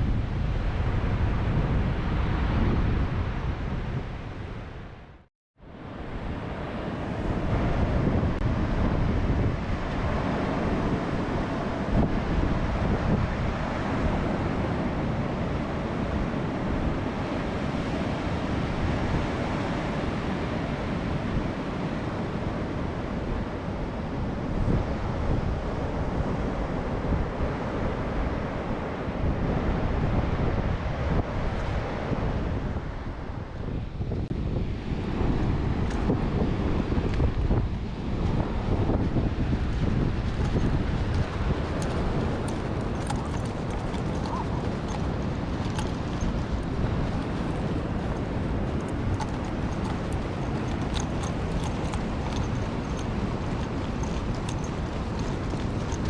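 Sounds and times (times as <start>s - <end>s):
wind buffeting microphone: 0.0s - 5.2s, 5.8s - 56.0s.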